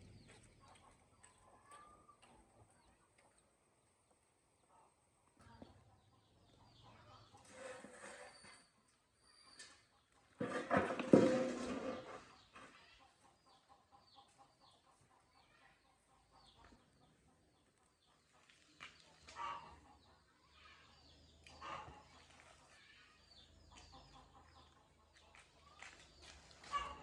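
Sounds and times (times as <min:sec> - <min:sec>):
birds calling: 0:04.6 - 0:27.0.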